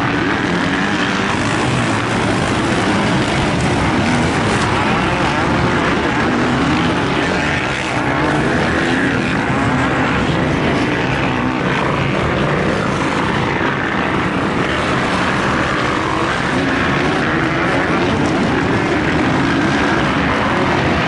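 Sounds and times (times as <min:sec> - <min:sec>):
dirt bike engines droning: 0:00.0 - 0:21.0.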